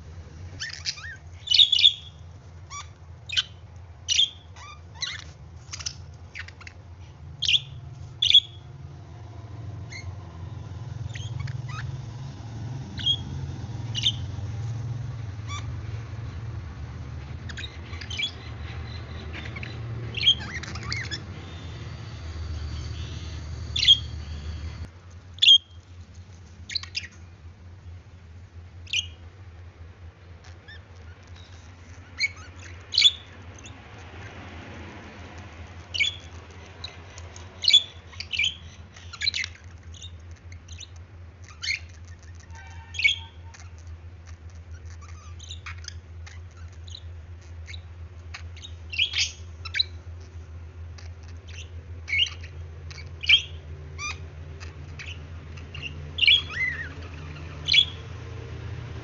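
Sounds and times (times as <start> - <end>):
steady low hum: 0.0 - 59.0
budgies chirping and squawking: 0.4 - 25.8, 26.4 - 27.2, 28.8 - 29.2, 30.4 - 58.4.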